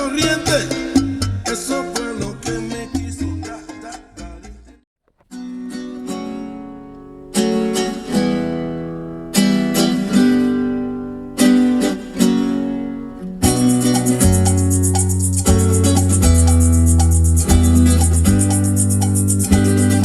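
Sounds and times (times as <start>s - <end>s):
bass line: 0.0s - 4.8s, 8.4s - 20.0s
strummed acoustic guitar chords: 0.0s - 20.0s.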